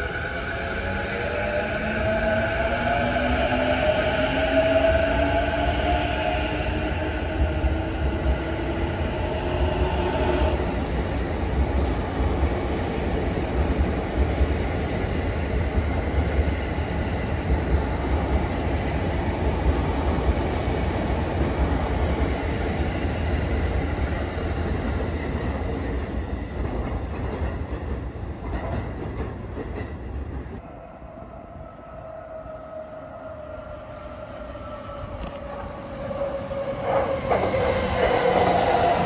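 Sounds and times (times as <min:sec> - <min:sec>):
distant train whine: 0:00.0 - 0:27.0, 0:30.4 - 0:39.0.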